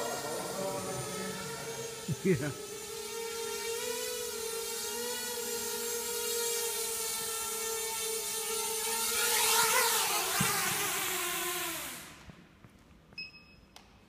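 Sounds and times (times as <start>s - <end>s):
drone propellers buzzing: 0.0s - 12.2s.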